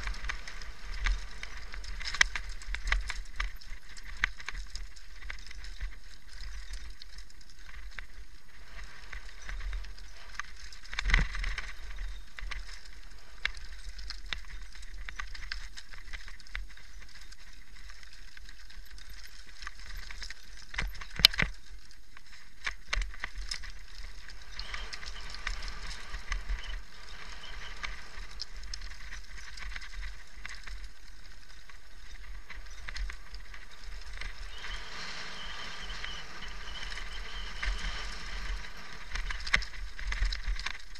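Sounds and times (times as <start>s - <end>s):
mountain bike rattling over rocks: 0.0s - 40.9s.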